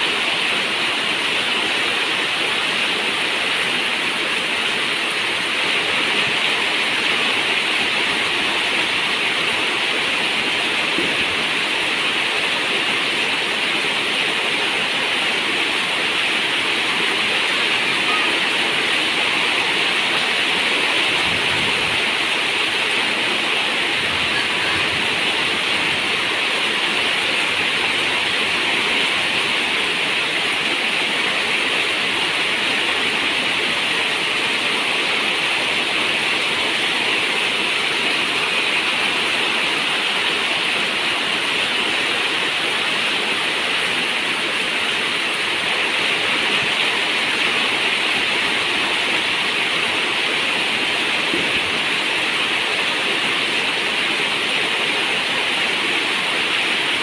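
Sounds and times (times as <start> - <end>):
rain on a metal roof: 0.0 - 57.0.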